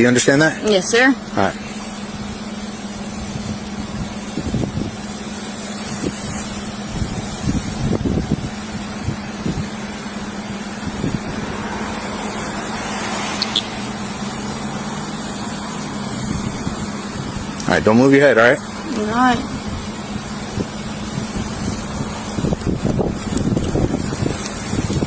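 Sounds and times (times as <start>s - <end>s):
constant hiss: 0.0s - 25.0s
idling vehicle hum: 0.0s - 25.0s.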